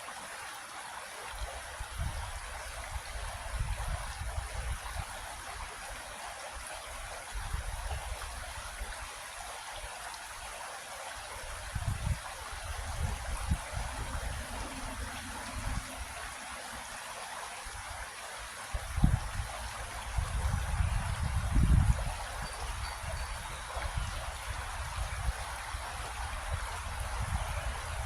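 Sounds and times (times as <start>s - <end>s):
creek water trickling: 0.0s - 28.0s.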